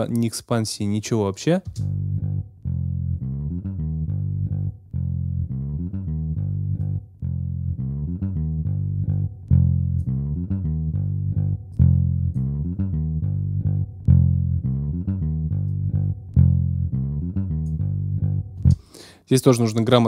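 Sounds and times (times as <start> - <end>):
electric bass guitar playing: 1.7 - 20.0.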